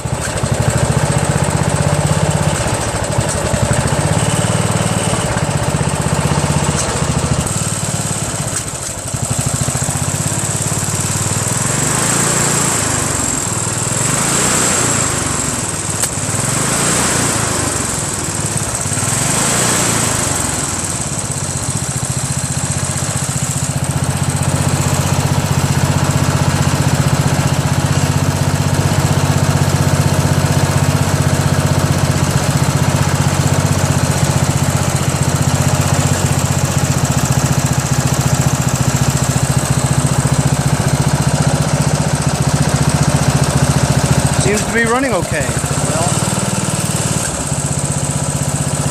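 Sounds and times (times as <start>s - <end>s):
lawn tractor engine running: 0.0s - 48.9s.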